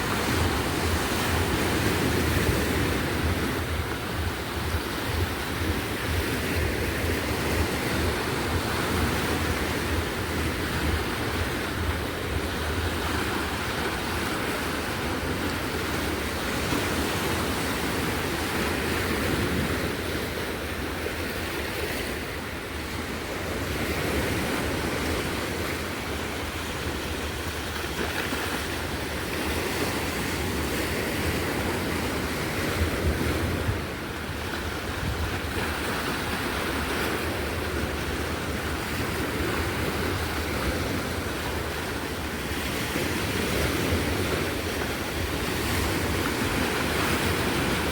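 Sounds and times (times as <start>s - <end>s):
sea waves washing on shore: 0.0s - 47.9s
wind rumbling on microphone: 0.0s - 47.9s.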